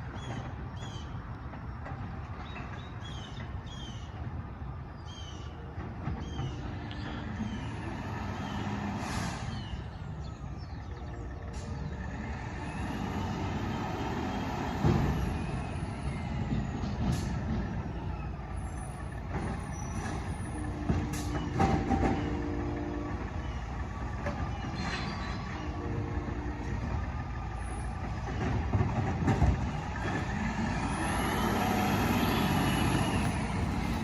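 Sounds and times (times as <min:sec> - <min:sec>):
garbage truck running: 0:00.0 - 0:34.0.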